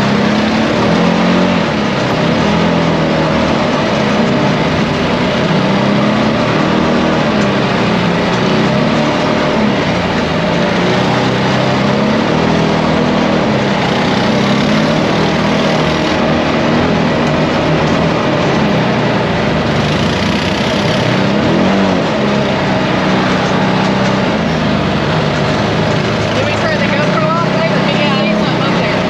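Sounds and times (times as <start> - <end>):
quad bike engine revving: 0.0 - 29.0.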